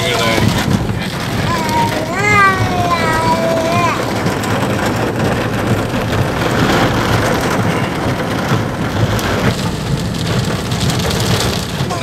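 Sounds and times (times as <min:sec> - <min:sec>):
engine and road noise rumble: 0:00.0 - 0:12.0
heavy rain on car roof: 0:00.0 - 0:12.0.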